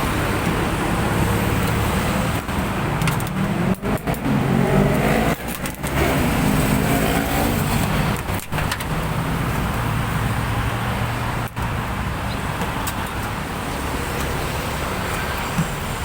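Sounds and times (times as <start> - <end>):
motor vehicle engine: 0.0 - 16.0
road traffic noise: 0.0 - 16.0.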